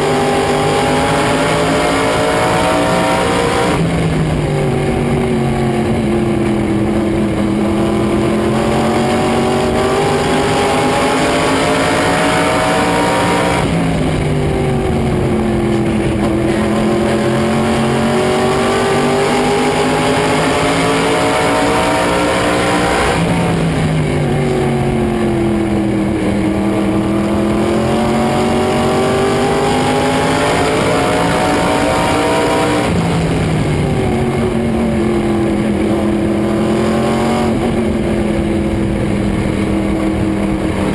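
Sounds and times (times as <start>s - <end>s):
race car engine: 0.0s - 40.9s.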